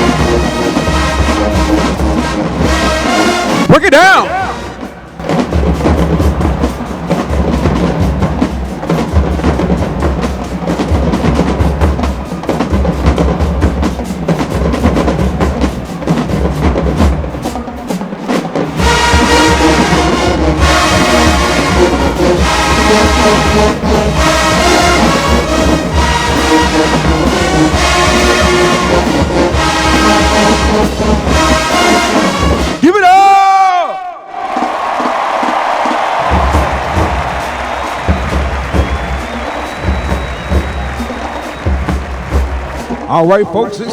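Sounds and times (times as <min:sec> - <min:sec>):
brass section playing: 0:00.0 - 0:33.2, 0:33.9 - 0:43.9
drumline with bass drums: 0:00.0 - 0:43.9.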